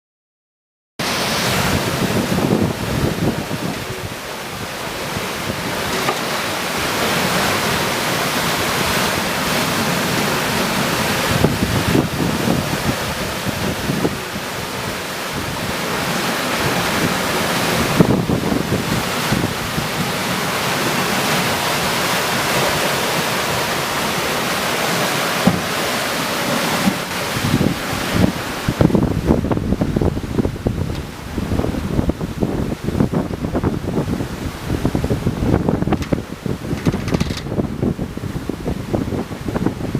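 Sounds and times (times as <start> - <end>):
rushing water: 1.0 - 39.9
wind gusts buffeting microphone: 1.0 - 39.9.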